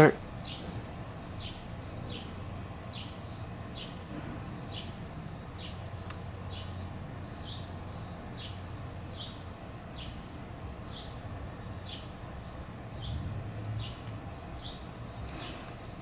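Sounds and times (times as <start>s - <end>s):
steady low hum: 0.0s - 16.0s
small bird chirping: 0.4s - 16.0s.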